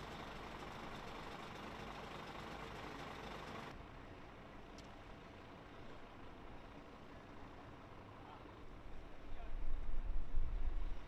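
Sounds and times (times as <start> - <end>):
distant road traffic: 0.0 - 9.6.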